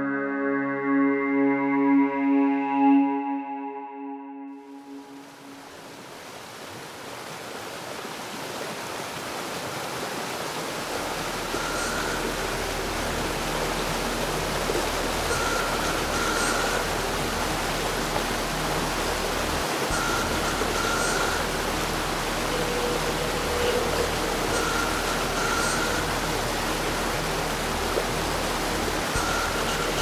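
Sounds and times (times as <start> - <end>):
river rapids rushing: 5.2 - 30.0.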